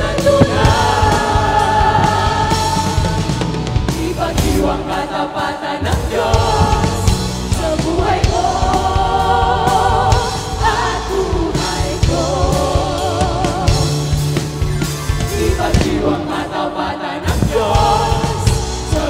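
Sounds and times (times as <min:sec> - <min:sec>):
group singing worship song: 0:00.0 - 0:19.0.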